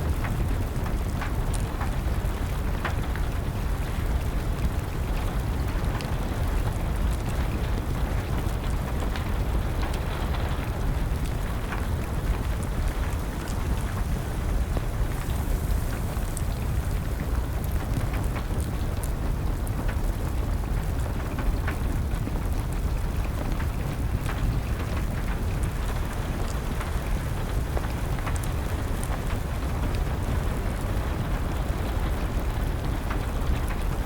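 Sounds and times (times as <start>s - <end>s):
dense rain: 0.0s - 34.0s
wood fire crackling: 0.0s - 34.0s.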